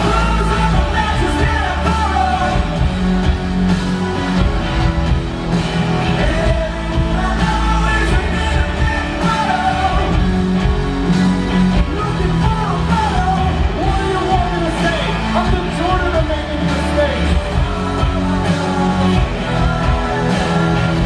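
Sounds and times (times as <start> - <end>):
man singing: 0.0 - 3.2, 6.0 - 10.6, 11.6 - 21.0
bass guitar: 0.0 - 21.0
drums: 0.0 - 21.0
electric guitar: 0.0 - 21.0.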